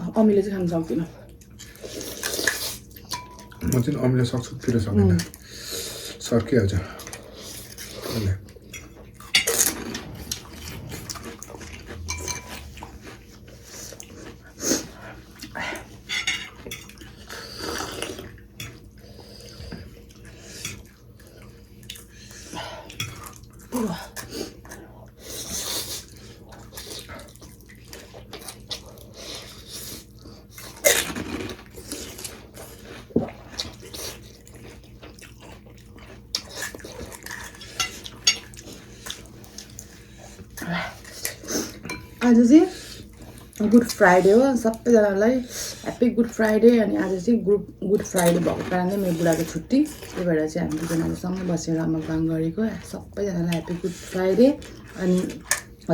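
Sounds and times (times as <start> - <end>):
chewing and slurping: 1.2 - 55.9.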